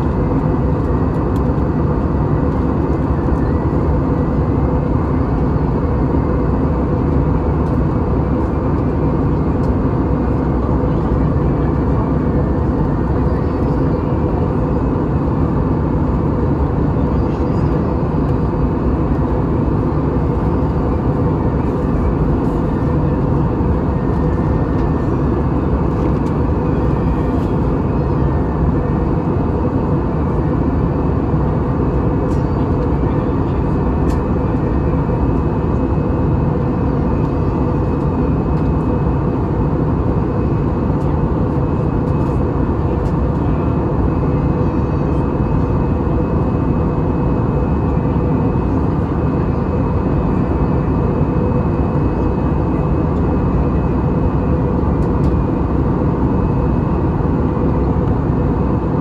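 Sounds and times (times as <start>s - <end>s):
jet engine and airflow noise: 0.0s - 59.0s.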